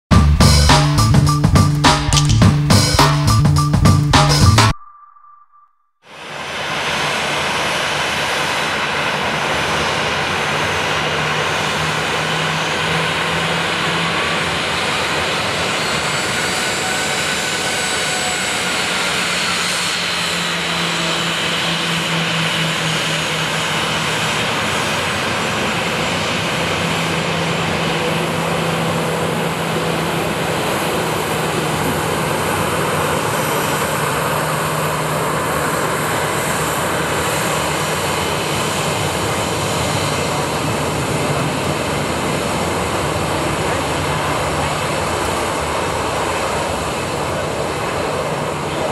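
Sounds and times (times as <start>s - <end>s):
jet engines humming and whining: 6.1s - 48.9s.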